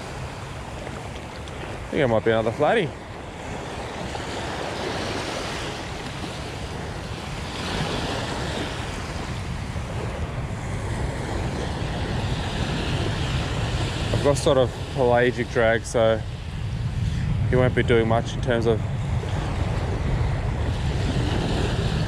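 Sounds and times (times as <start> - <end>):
small waves washing on beach: 0.0 - 22.0
wind buffeting microphone: 0.0 - 22.0.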